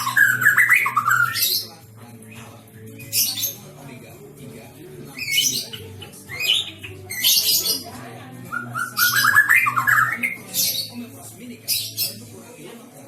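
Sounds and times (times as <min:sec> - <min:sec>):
songbird singing: 0:00.0 - 0:12.4.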